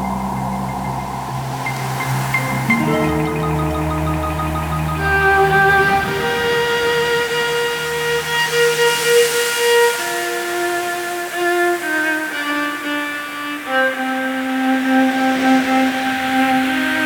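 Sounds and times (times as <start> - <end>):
bowed strings long notes: 0.0 - 17.0.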